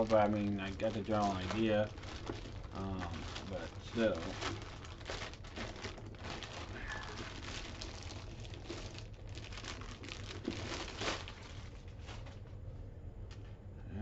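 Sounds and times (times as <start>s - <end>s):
packaging crinkling: 0.0s - 12.4s.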